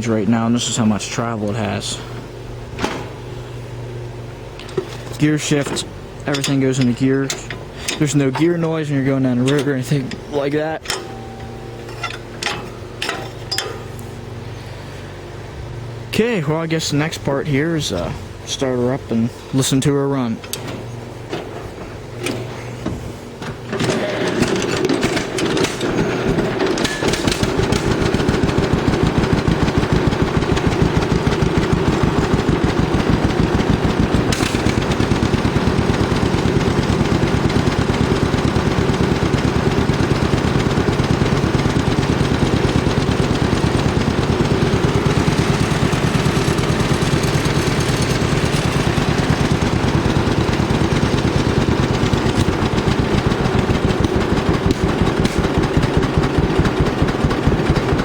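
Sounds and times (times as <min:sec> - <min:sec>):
tractor engine starting and running: 0:00.0 - 0:58.0.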